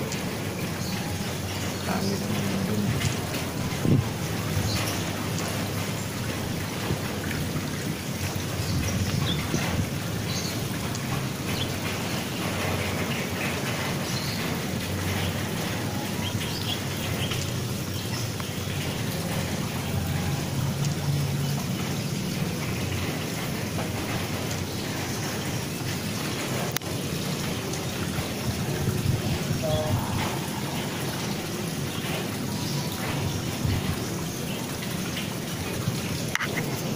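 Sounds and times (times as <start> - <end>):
rain on metal roof: 0.0 - 36.9.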